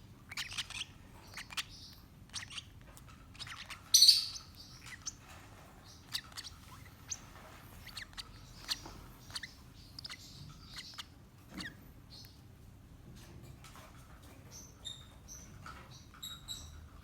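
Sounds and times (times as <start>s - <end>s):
parrot chicks chirping: 0.0s - 12.6s, 13.7s - 17.0s.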